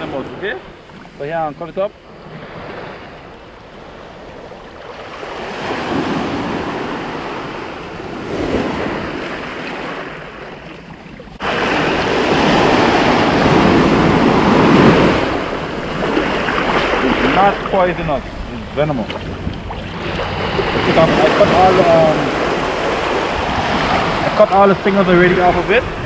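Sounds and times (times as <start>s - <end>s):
surf breaking on shore: 4.8s - 26.0s.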